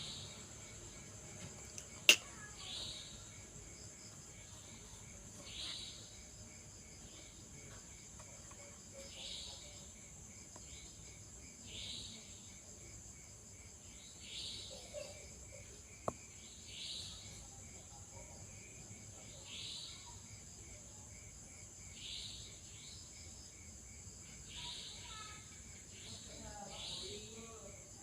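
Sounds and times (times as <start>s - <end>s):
insects buzzing and chirping: 0.0s - 28.0s.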